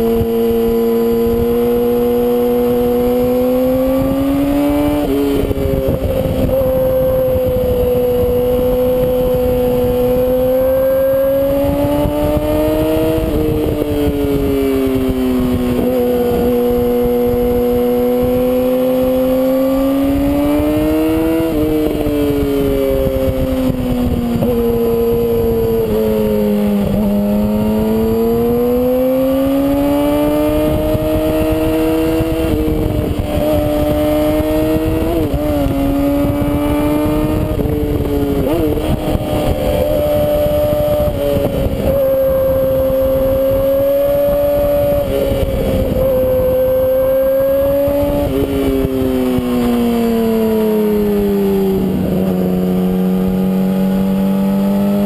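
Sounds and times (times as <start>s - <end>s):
motorcycle engine shifting gears: 0.0s - 55.0s
wind rushing on microphone: 0.0s - 55.0s.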